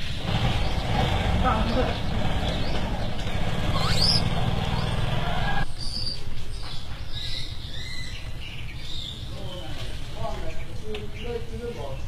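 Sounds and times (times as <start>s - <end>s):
outdoor ambience: 0.0s - 12.0s
small birds chirping: 0.0s - 12.0s.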